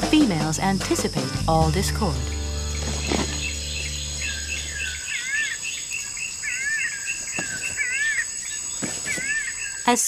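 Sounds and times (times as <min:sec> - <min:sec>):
high insect drone: 0:00.0 - 0:10.0
rapid chirping calls: 0:01.9 - 0:10.0.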